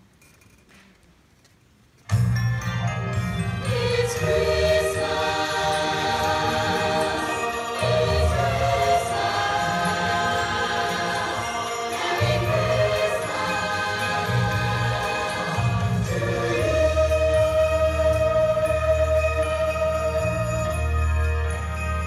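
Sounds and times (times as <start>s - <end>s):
choir singing with accompaniment: 3.1s - 22.0s.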